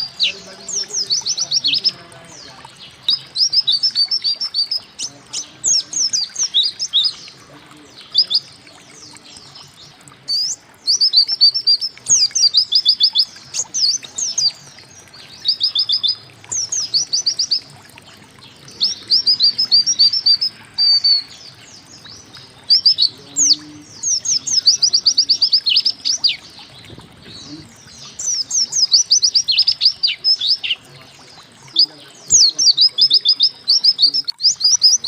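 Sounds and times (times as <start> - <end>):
bird singing rapid high notes: 0.0 - 17.8, 18.4 - 35.0.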